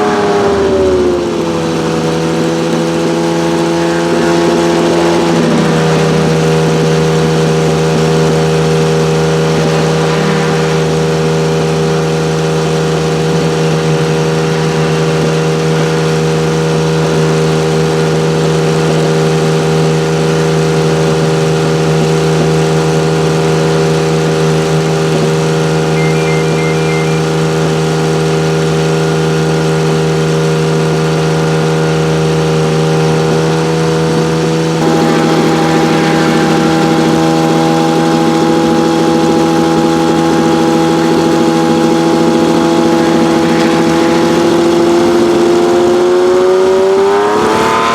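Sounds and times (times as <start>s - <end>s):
car engine idling: 0.0s - 20.1s, 22.2s - 27.9s, 32.0s - 46.6s.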